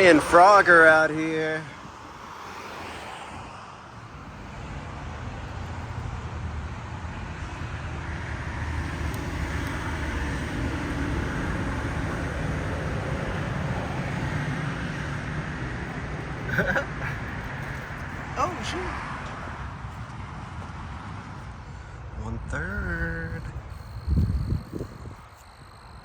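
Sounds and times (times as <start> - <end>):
passing road traffic: 0.0 - 26.0.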